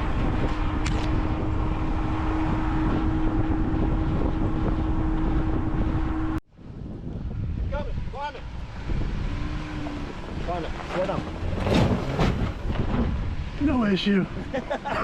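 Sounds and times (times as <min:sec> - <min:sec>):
car engine humming: 0:00.0 - 0:06.4, 0:08.4 - 0:15.0
wind noise on microphone: 0:00.0 - 0:15.0.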